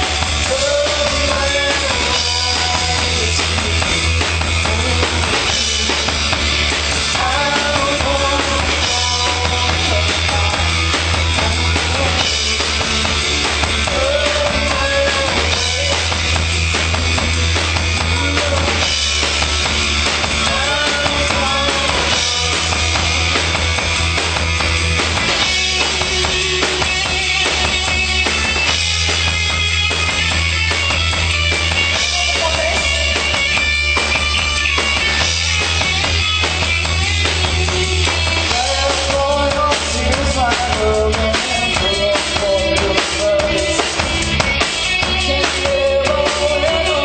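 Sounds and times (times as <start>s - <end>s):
drum kit beat: 0.0s - 47.0s
live band playing: 0.0s - 47.0s.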